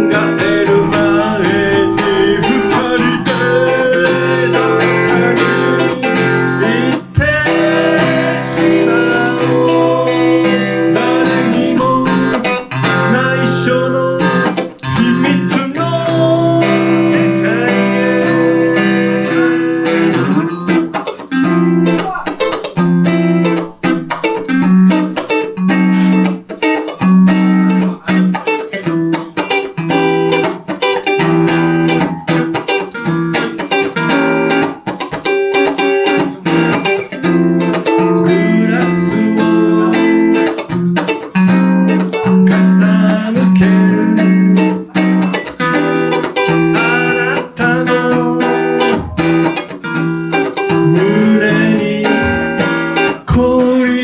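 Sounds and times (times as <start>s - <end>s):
electric guitar playing blues: 0.0s - 54.0s.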